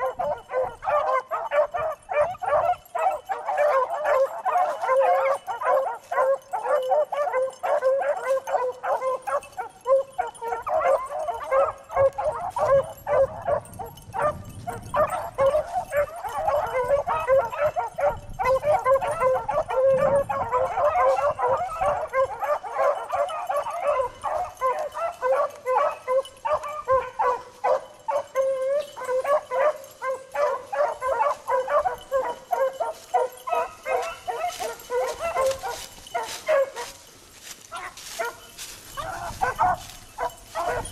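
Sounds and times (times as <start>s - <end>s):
pack of hounds baying: 0.0s - 40.9s.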